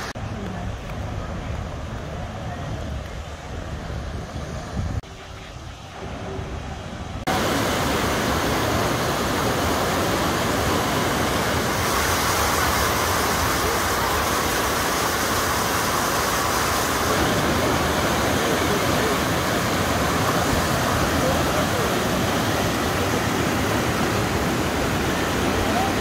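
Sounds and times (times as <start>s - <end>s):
river rapids rushing: 0.0s - 3.8s, 5.1s - 26.0s.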